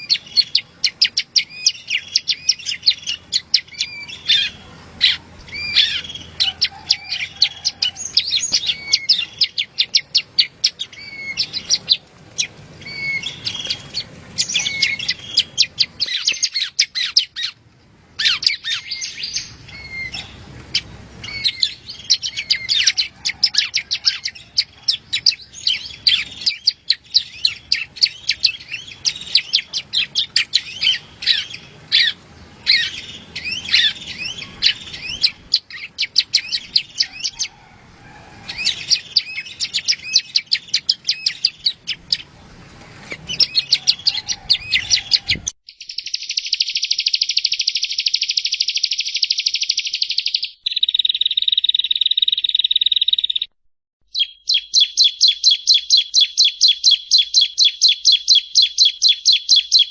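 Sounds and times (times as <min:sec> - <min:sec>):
bird chirping and trilling: 0:00.0 - 0:17.6, 0:18.2 - 0:42.4, 0:43.0 - 0:59.9.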